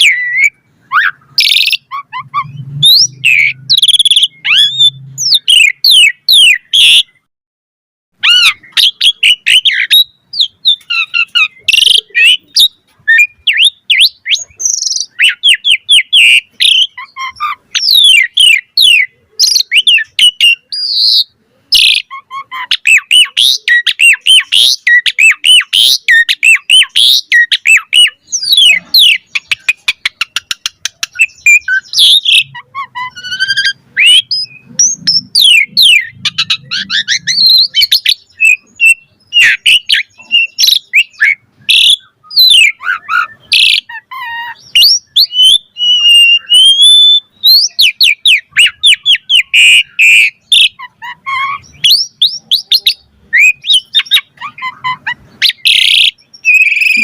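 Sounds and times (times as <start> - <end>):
starling singing: 0.0 - 7.3, 8.2 - 57.0.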